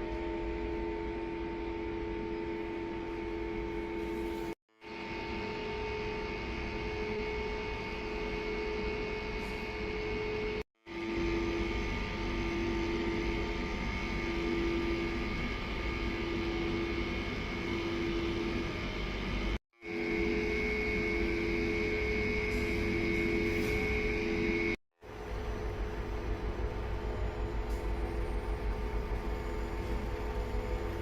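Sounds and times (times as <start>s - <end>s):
electric railcar running hum: 0.0s - 31.0s.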